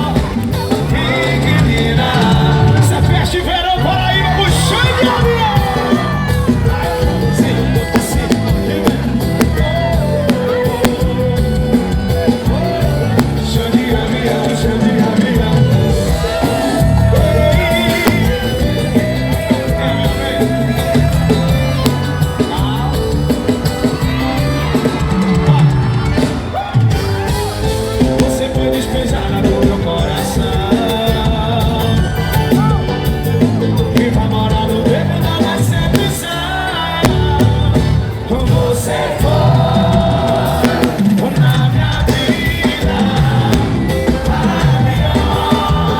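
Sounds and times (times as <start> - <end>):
drum beat: 0.0 - 45.9
forro band music: 0.0 - 45.9
person singing: 0.0 - 45.9
repeating bass line: 0.0 - 45.9.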